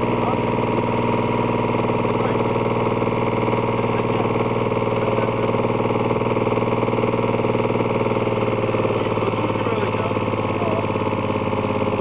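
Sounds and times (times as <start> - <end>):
excavator engine idling: 0.0 - 12.0.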